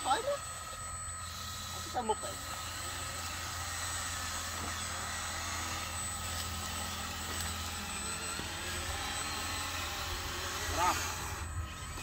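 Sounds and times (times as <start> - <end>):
toy electric motors whirring: 0.0 - 12.0.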